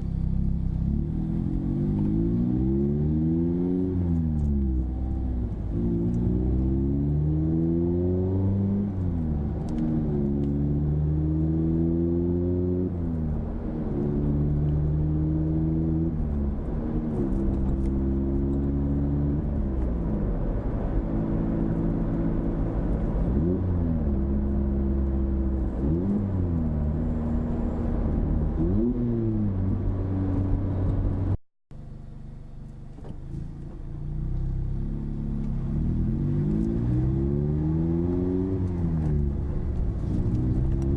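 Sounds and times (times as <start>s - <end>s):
car engine revving: 0.0s - 31.4s, 32.9s - 40.9s.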